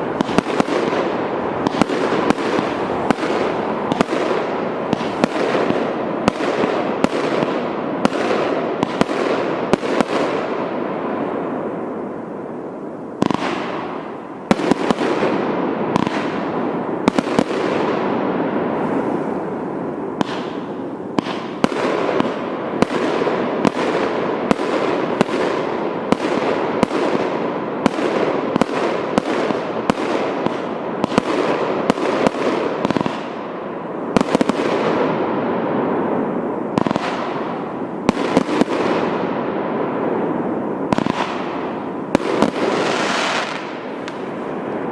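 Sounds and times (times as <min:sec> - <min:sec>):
fireworks bangs: 0:00.0 - 0:44.9
fireworks crackling hiss: 0:00.0 - 0:44.9.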